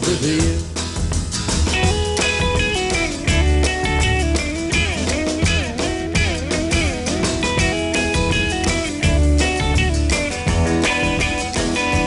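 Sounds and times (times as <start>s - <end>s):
pop instrumental with guitar: 0.0s - 12.0s.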